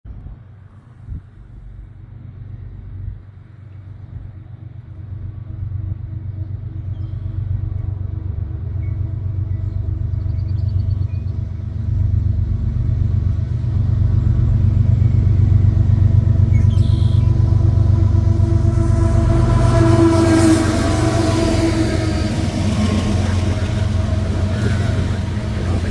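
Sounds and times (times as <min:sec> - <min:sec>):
diesel locomotive engine drone: 0:00.1 - 0:25.9.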